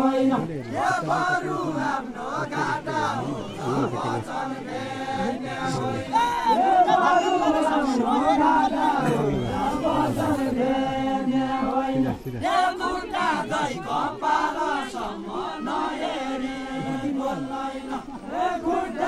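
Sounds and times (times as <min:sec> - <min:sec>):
men singing folk song together: 0:00.0 - 0:19.0.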